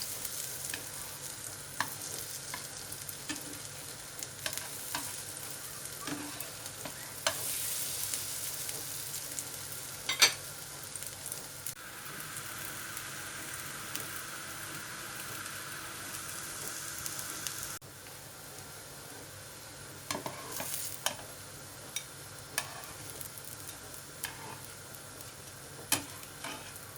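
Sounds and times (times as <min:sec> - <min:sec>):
sizzling hiss: 0:00.0 - 0:26.9.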